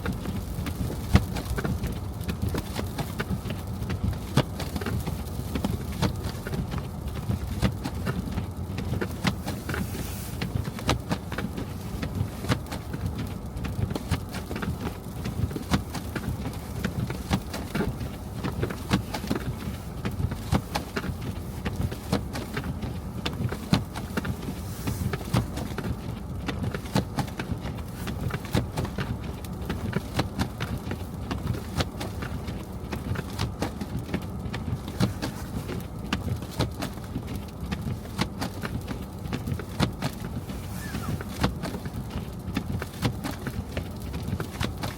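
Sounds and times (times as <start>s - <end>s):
car rumbling on road: 0.0s - 44.9s.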